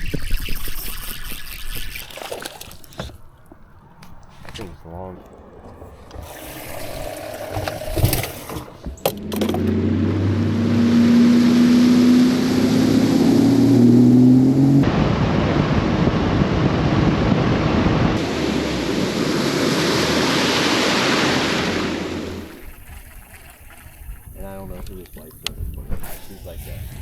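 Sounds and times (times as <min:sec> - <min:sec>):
outboard motor running: 0:00.0 - 0:26.0
rush of wind and water: 0:01.8 - 0:27.0.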